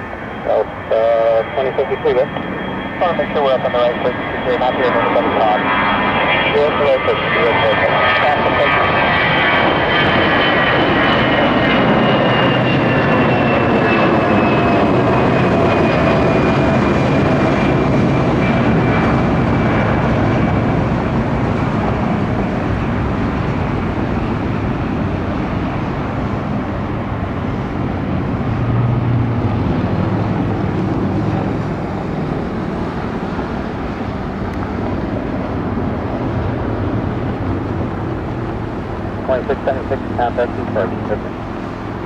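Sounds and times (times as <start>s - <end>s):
jet engine whine: 0.0s - 42.0s
jet engines roaring: 0.0s - 42.0s.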